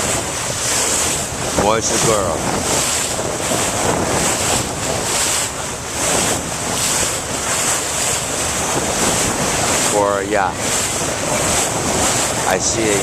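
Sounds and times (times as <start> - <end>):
motorboat: 0.0 - 13.0
water rushing and splashing: 0.0 - 13.0
wind buffeting microphone: 0.0 - 13.0.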